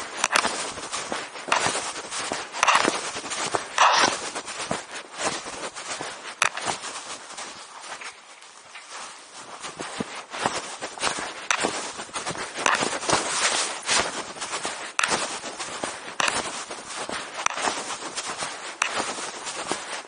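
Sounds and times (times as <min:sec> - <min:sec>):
handling noise rustling and scuffing: 0:00.0 - 0:20.0.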